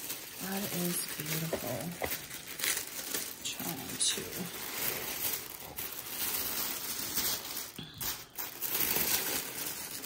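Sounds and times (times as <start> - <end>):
tissue paper rustling: 0.0 - 10.0.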